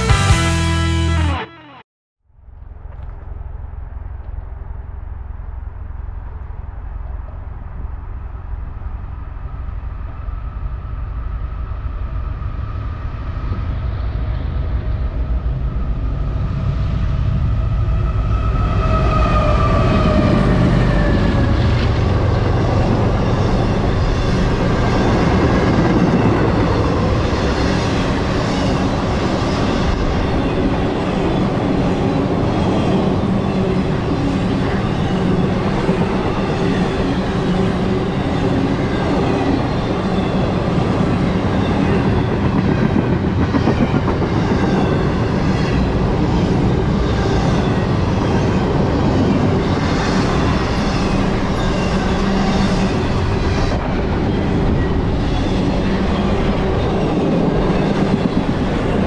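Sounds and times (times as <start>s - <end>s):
diesel locomotives rumbling: 2.4s - 59.0s.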